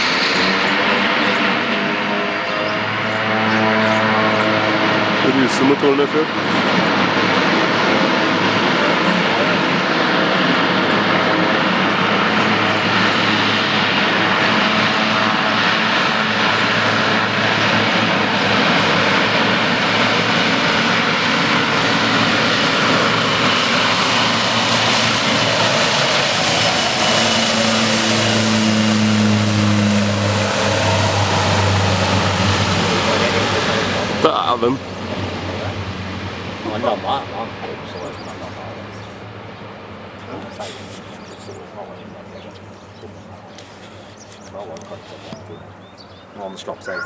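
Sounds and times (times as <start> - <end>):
propeller airplane engines roaring: 0.0 - 47.0.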